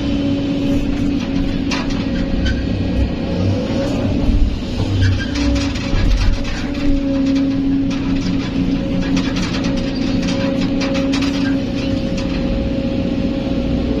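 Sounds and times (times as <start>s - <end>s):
diesel engine running with whine: 0.0s - 14.0s
machinery knocks and clatters: 0.7s - 3.2s, 3.8s - 12.7s.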